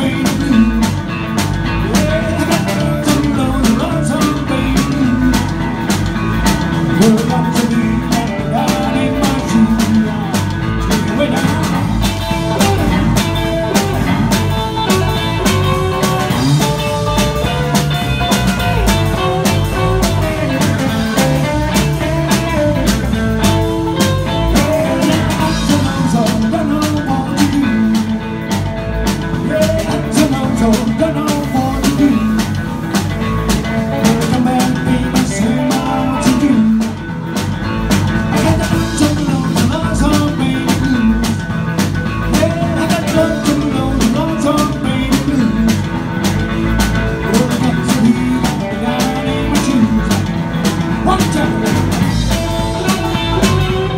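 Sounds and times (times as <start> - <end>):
drum kit beat: 0.0 - 53.9
electric guitar: 0.0 - 53.9.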